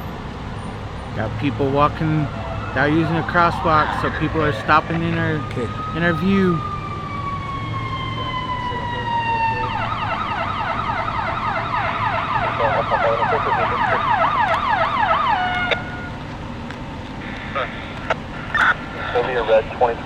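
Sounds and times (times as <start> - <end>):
emergency vehicle siren: 0.0 - 20.0.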